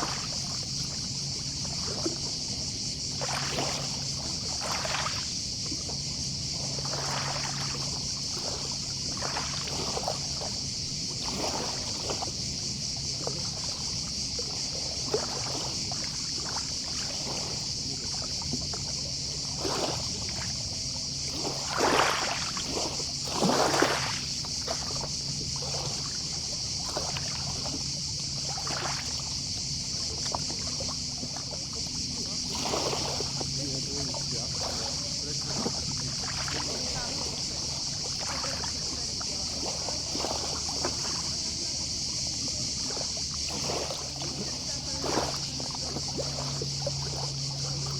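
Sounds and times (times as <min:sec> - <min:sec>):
distant cicadas: 0:00.0 - 0:47.9
small waves lapping on beach: 0:00.0 - 0:47.9.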